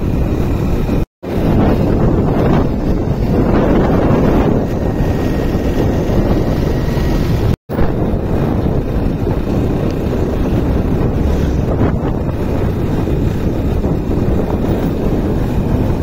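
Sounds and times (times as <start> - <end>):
motorcycle road noise: 0.0 - 16.0
wind buffeting microphone: 0.0 - 16.0.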